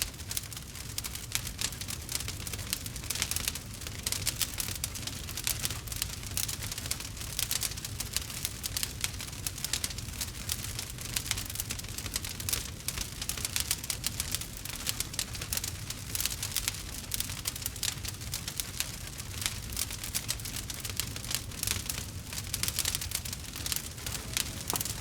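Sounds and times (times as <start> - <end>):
campfire crackling: 0.1 - 25.0.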